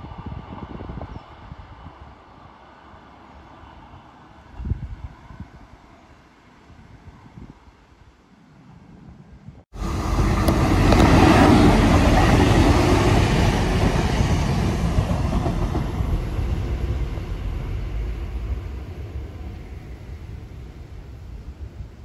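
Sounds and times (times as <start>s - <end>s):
train passing close by: 0.0s - 6.5s, 9.7s - 22.0s.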